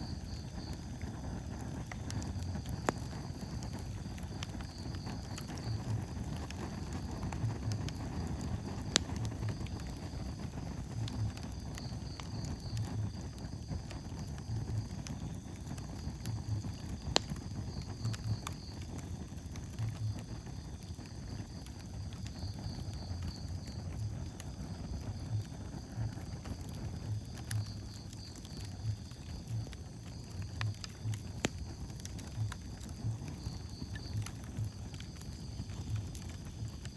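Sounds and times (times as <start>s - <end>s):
fire crackling and popping: 0.0s - 36.9s
fire rumbling: 0.0s - 36.9s.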